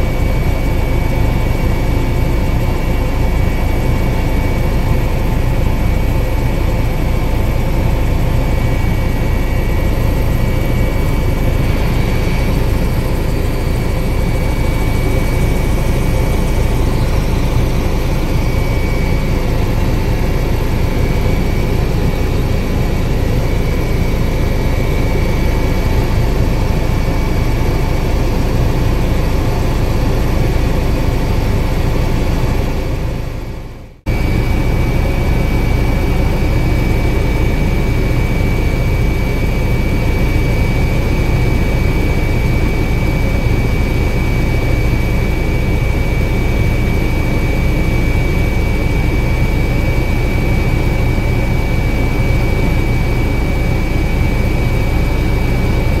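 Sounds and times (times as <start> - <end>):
helicopter rotor and engine drone: 0.0 - 56.0
high whine: 0.0 - 56.0.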